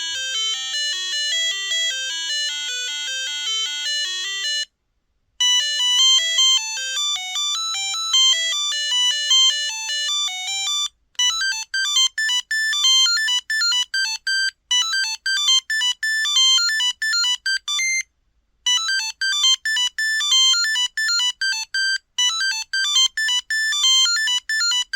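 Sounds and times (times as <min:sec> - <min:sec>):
monophonic phone ringtone: 0:00.0 - 0:04.7, 0:05.4 - 0:18.0, 0:18.7 - 0:24.9.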